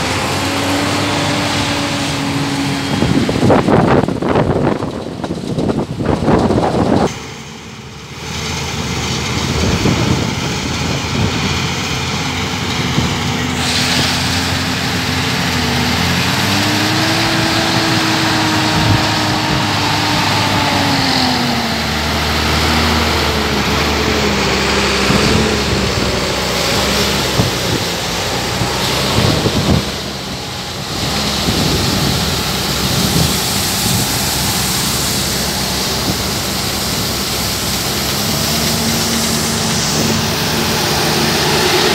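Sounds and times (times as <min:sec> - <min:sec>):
engine note rising and falling: 0:00.0 - 0:05.0, 0:12.7 - 0:41.9
combine harvester drone: 0:00.0 - 0:41.9.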